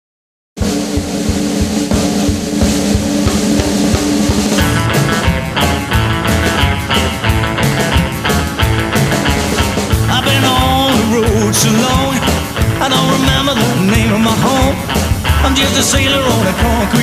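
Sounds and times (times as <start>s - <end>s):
drum kit beat: 0.6s - 17.0s
rock and roll band music: 0.6s - 17.0s
electric guitar: 1.9s - 17.0s.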